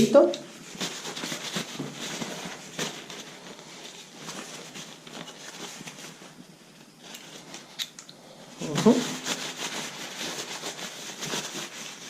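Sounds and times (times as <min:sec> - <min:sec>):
soft handling noise: 0:00.4 - 0:12.0.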